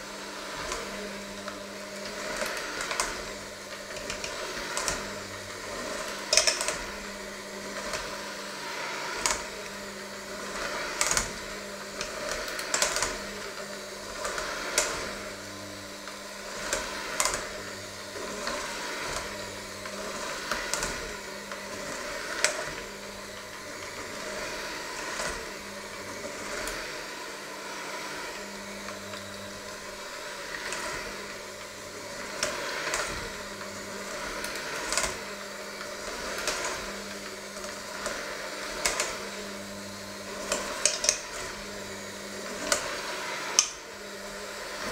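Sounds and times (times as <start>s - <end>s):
electric hand mixer running: 0.0s - 44.9s.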